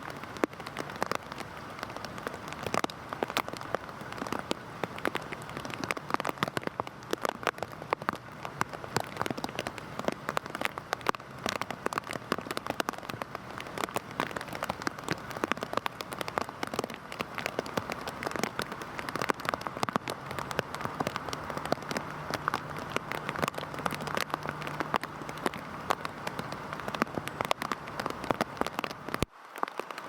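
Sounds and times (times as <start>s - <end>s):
heavy rain on a surface: 0.0s - 30.0s.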